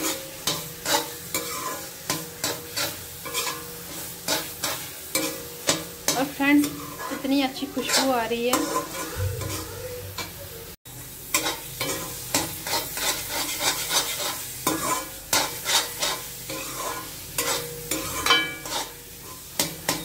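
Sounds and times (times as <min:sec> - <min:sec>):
metal spatula scraping a pan: 0:00.0 - 0:10.6, 0:11.2 - 0:20.0.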